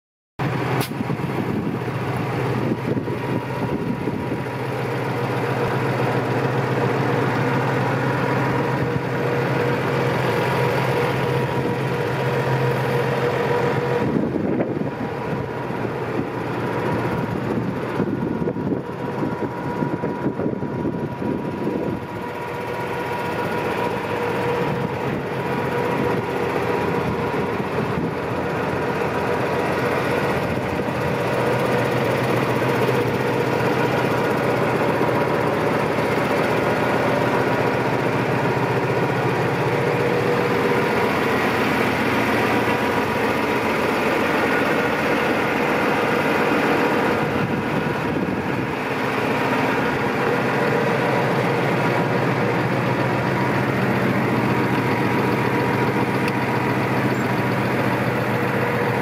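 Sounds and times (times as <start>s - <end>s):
tractor diesel engine idling: 0.4s - 59.0s.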